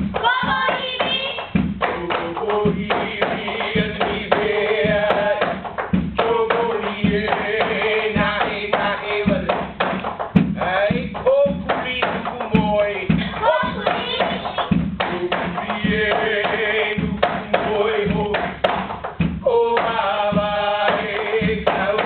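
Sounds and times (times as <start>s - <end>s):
gourd drum beat: 0.0s - 22.0s.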